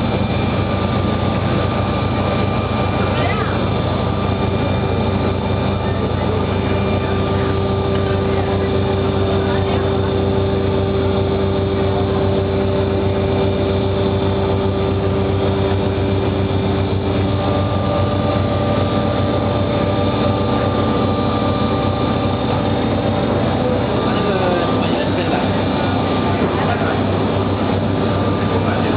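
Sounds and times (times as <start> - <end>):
machine hum with whining tones: 0.0 - 28.9.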